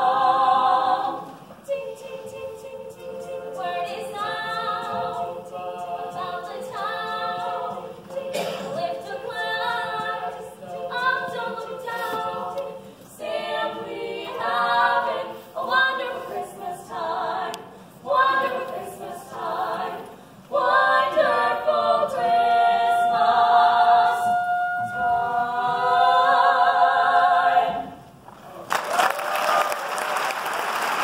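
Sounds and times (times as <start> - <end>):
women singing a cappella harmony: 0.0 - 28.0.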